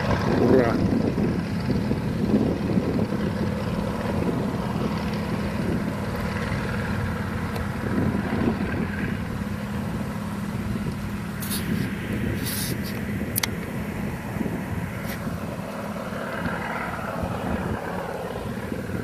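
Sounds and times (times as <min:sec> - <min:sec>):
light aircraft droning overhead: 0:00.0 - 0:19.0.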